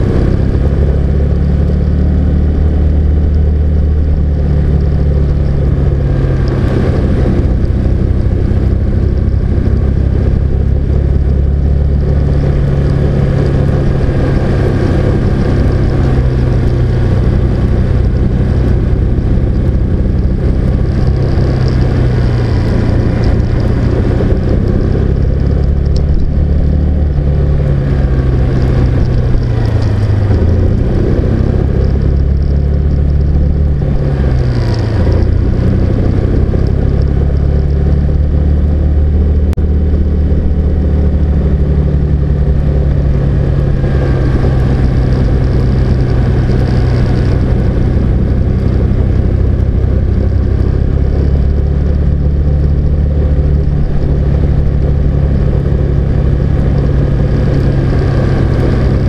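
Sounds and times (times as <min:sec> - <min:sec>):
car engine running: 0:00.0 - 0:59.0
road noise: 0:00.0 - 0:59.0.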